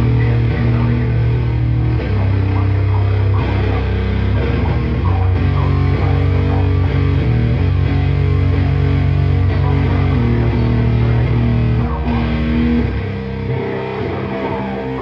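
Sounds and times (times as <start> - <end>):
rock band playing: 0.0 - 15.0
wavering guitar line: 0.0 - 15.0.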